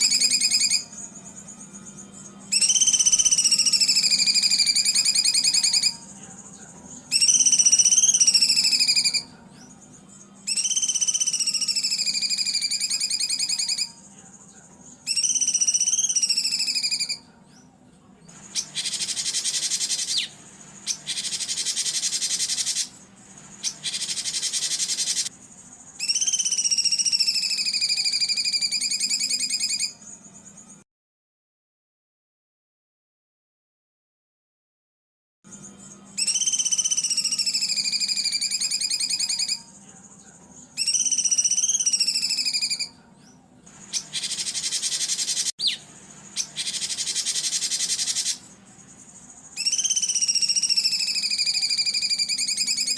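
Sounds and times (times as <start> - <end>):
bird harsh buzzy calls: 0.0 - 14.0, 15.1 - 17.2, 18.3 - 30.0, 36.1 - 39.7, 40.8 - 43.0, 43.7 - 52.9
songbird warbling: 0.0 - 14.1, 14.9 - 17.2, 18.3 - 30.1, 35.6 - 39.8, 40.8 - 43.0, 43.7 - 52.9.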